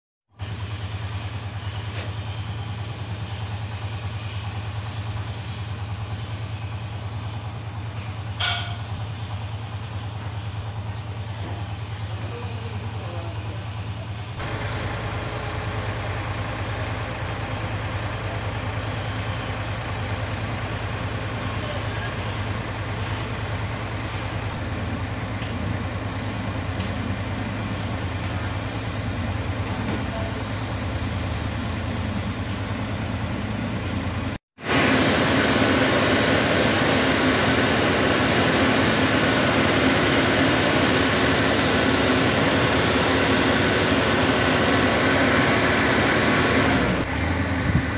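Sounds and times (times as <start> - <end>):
diesel engine idling: 0.4 - 47.9.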